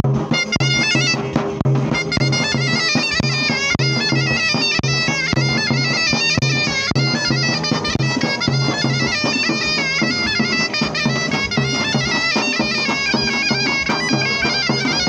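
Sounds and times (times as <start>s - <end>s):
drum strokes: 0.0s - 15.0s
shrill reedy pipe melody: 0.0s - 15.0s.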